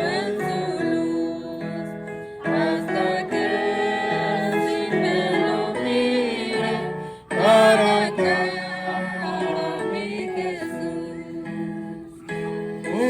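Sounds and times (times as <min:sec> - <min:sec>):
voices singing a hymn: 0:00.0 - 0:13.0.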